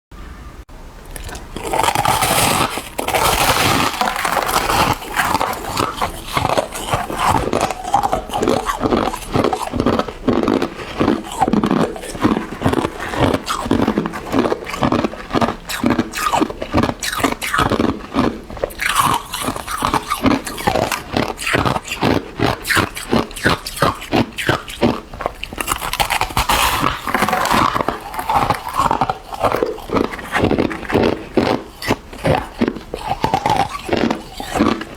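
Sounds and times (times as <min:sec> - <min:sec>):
person chewing ice: 0:01.0 - 0:34.9.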